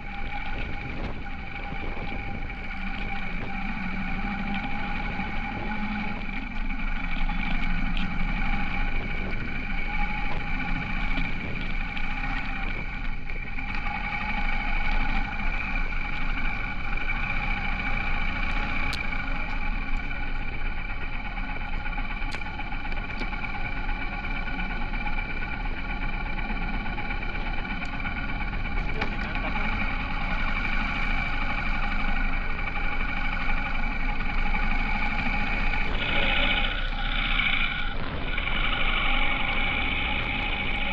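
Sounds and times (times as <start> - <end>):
low wind rumble: 0.0 - 40.9
motorcycle engine running: 0.0 - 40.9.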